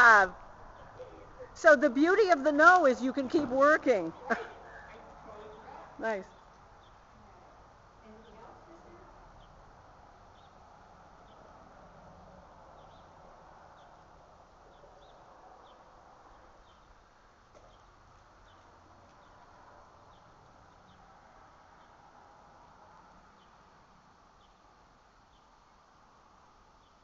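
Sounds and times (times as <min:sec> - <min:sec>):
low steady hiss: 0:00.0 - 0:27.0.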